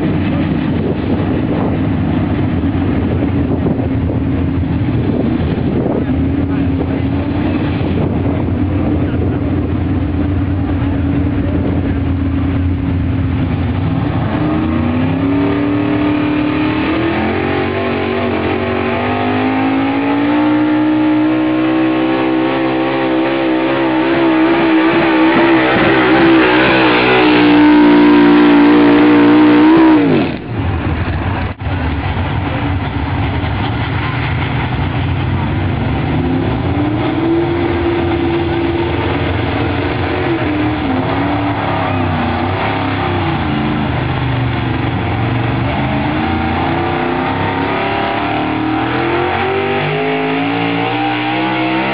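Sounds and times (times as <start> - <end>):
truck engine revving: 0.0 - 51.9.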